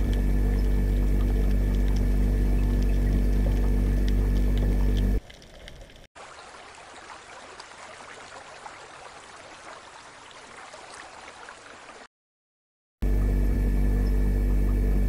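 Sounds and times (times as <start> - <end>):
aquarium water trickling and bubbling: 0.0 - 12.1.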